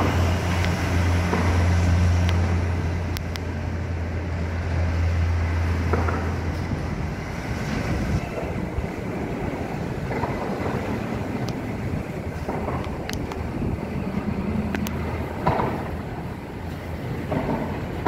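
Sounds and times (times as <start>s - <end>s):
steel train wheels rumbling on rail: 0.0s - 18.0s.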